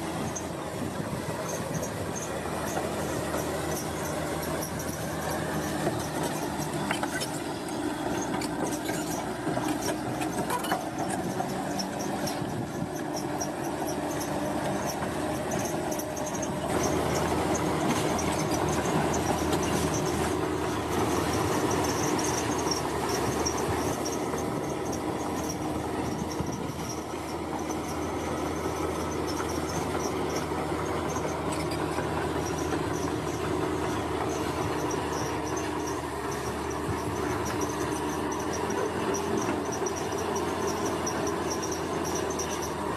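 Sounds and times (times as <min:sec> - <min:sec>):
diesel engine under load: 0:00.0 - 0:42.9
steel tracks squealing and clanking: 0:00.0 - 0:42.9.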